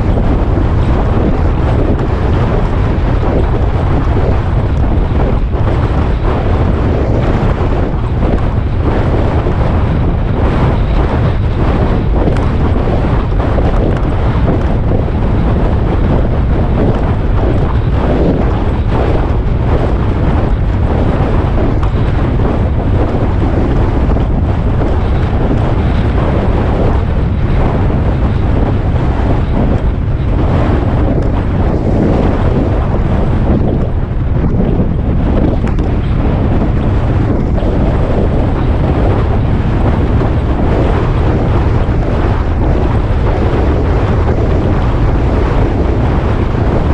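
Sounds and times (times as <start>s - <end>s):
wind rumble on microphone: 0.0s - 46.9s.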